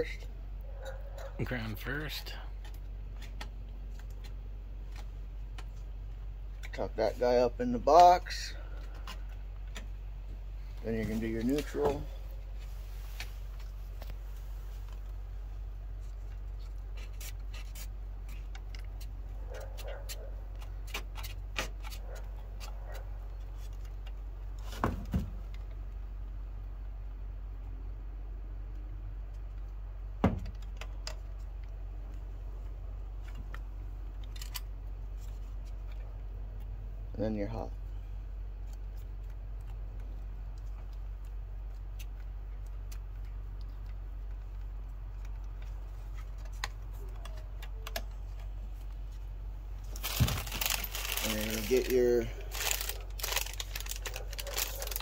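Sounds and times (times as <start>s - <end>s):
wires and hardware rustling: 0.0s - 25.8s, 29.2s - 55.0s
steady low hum: 0.0s - 55.0s.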